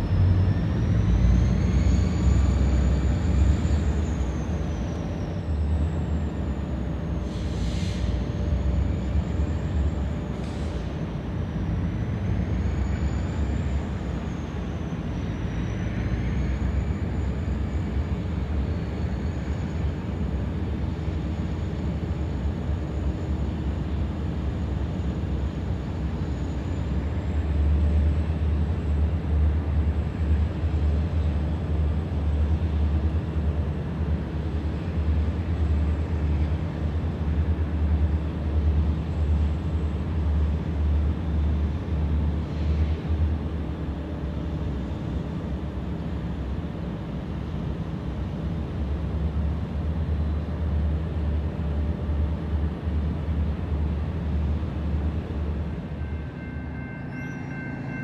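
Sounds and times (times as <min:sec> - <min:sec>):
diesel locomotive engine rumbling: 0:00.0 - 0:58.0.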